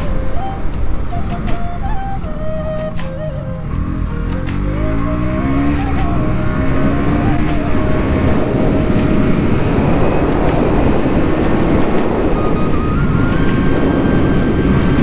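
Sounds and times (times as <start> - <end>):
motorcycle engine running: 0.0 - 15.0
steady rush of noise: 0.0 - 15.0.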